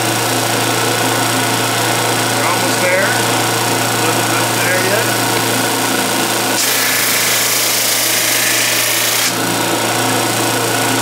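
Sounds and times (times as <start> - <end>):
drum sander motor hum: 0.0 - 11.0.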